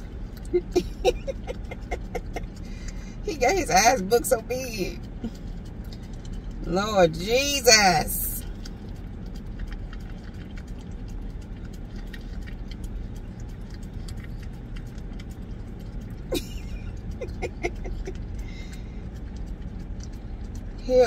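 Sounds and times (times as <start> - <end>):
car cabin hum: 0.0 - 21.0
dog licking cream: 0.0 - 21.0.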